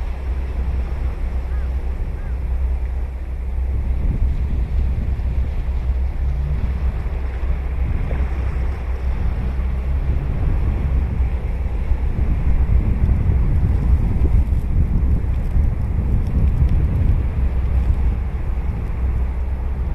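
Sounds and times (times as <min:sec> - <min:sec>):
ocean surf washing onto beach: 0:00.0 - 0:19.9
wind buffeting the microphone: 0:00.0 - 0:19.9.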